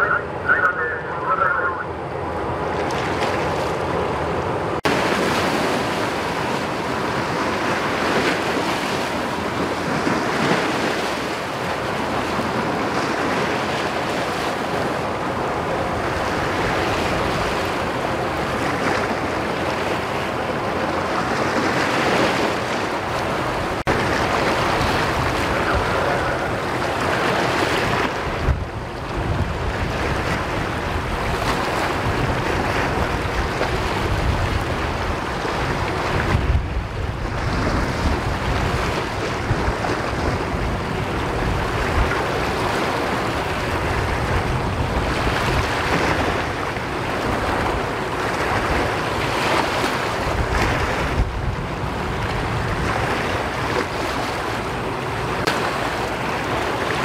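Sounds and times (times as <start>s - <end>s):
sea waves: 0.0s - 57.0s
wind buffeting microphone: 0.0s - 57.0s.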